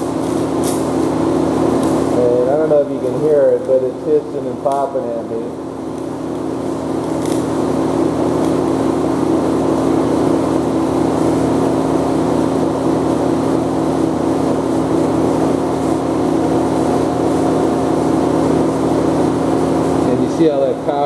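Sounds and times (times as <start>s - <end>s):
welding arc hissing: 0.0s - 20.6s
welding equipment humming: 0.0s - 21.0s.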